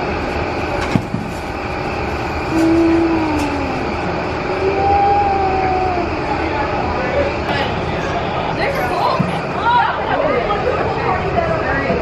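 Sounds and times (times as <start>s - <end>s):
constant background noise: 0.0s - 12.0s
distant voices: 0.0s - 12.0s.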